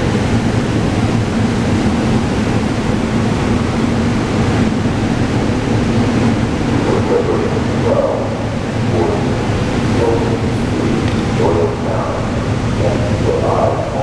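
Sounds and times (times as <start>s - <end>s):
low train hum: 0.0s - 14.0s
train wheels rumbling on rails: 0.0s - 14.0s.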